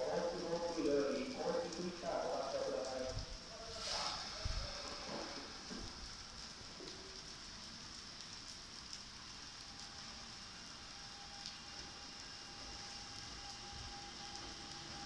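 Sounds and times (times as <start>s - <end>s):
rain falling: 0.0s - 15.0s
water drips: 0.0s - 15.0s.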